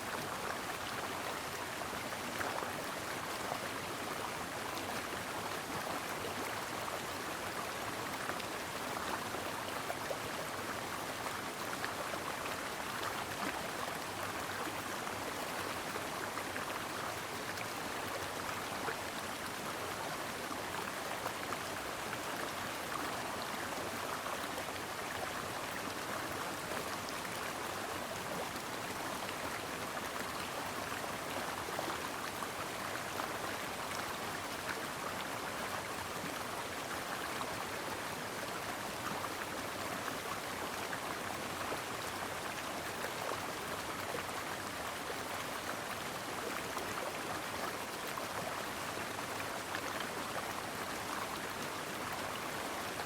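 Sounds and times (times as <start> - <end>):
brook water flowing: 0.0 - 53.0.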